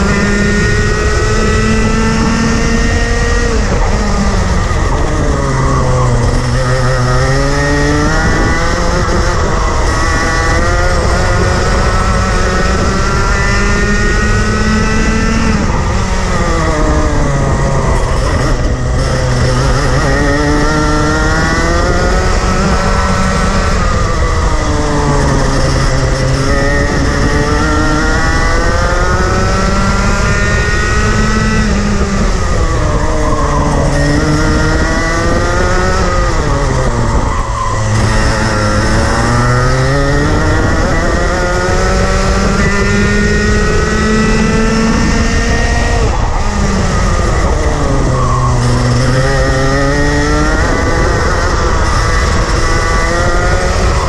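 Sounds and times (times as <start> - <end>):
kart engine revving: 0.0 - 54.0
wind noise on microphone: 0.0 - 54.0.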